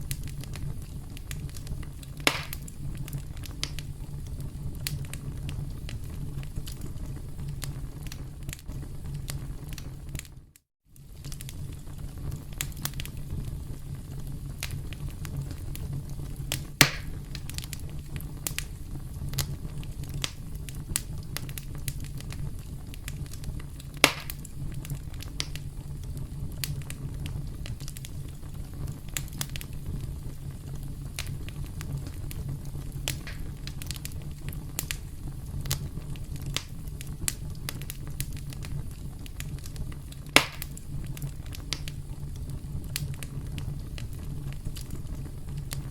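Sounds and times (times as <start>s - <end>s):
sharp fire pops: 0.0s - 10.4s, 11.0s - 45.9s
campfire crackling: 0.0s - 45.9s.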